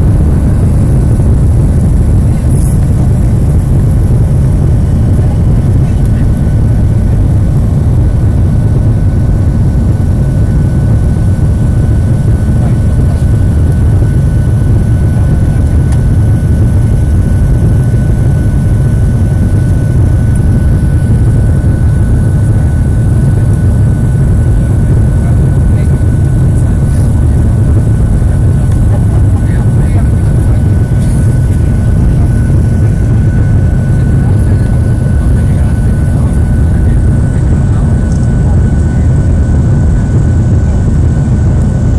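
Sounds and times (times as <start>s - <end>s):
jet engines deep rumble: 0.0s - 41.9s
thin steady whine: 0.0s - 41.9s.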